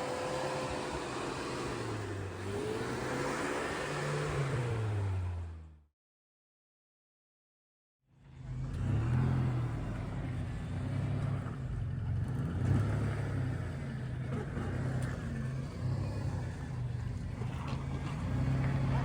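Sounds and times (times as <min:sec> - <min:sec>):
vehicle engine at low revs: 0:00.0 - 0:05.9, 0:08.1 - 0:19.0.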